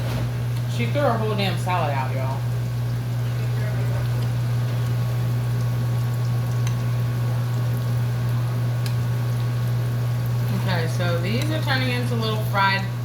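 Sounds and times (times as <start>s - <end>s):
oil popping: 0.0s - 12.1s
batter frying in hot oil: 0.0s - 13.0s
steady low hum: 0.0s - 13.0s.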